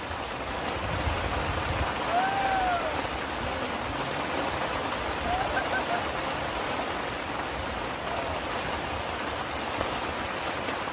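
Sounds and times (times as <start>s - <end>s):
rain falling: 0.0s - 10.9s
wind rumble on microphone: 0.0s - 10.9s.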